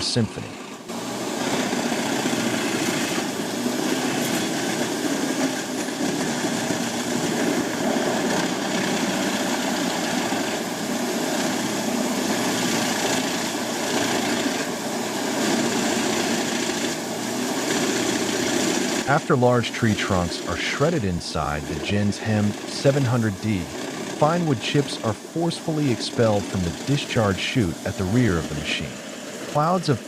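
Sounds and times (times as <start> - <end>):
wood chipper engine running: 0.8 - 30.0.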